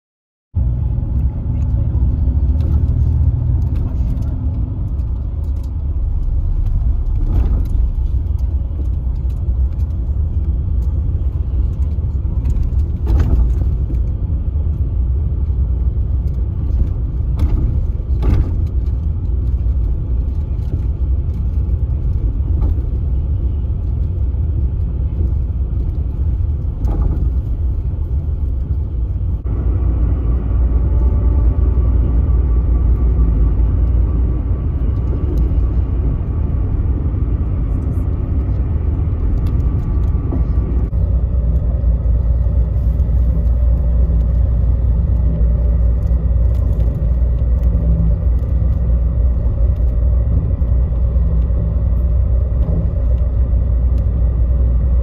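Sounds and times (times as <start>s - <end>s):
moving vehicle rumble: 0.5s - 55.0s.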